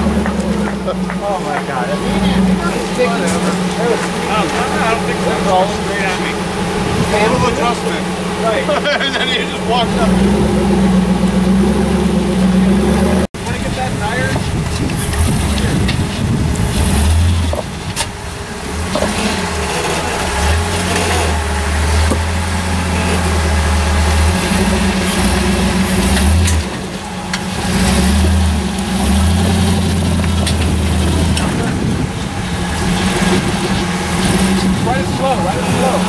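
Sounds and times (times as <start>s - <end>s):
buggy engine revving at low revs: 0.0s - 36.0s.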